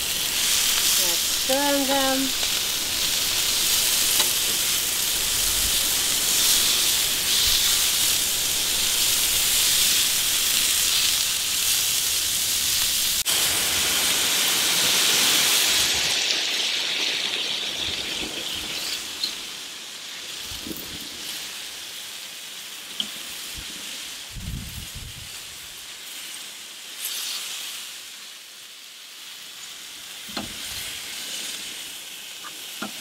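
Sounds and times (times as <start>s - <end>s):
steaks sizzling on a griddle: 0.0s - 33.0s.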